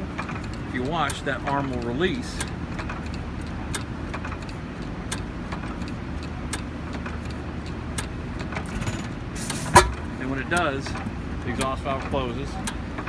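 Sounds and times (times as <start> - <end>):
engine sharp click: 0.0 - 13.0.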